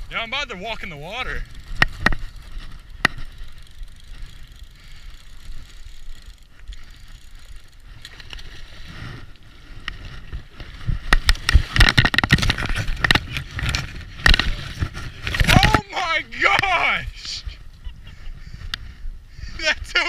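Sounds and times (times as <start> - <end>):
branches scraping and crackling: 0.0 - 17.7.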